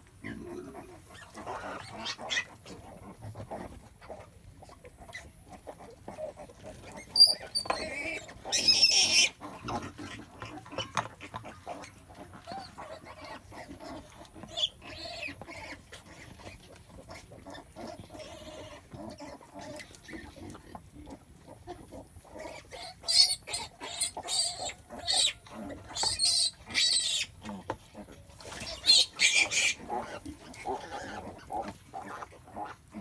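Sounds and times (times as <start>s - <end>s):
pigs grunting and squeaking: 0.0s - 33.0s.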